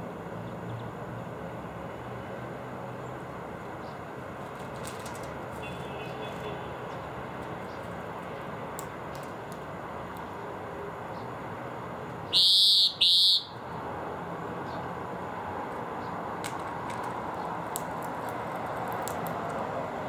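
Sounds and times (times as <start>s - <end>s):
distant city traffic hum: 0.0s - 20.0s.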